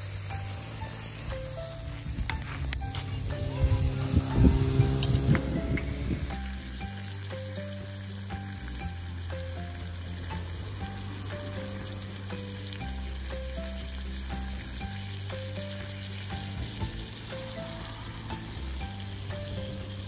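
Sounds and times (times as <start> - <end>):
background music with bass: 0.0 - 20.0
scallops sizzling on grill: 0.0 - 20.0.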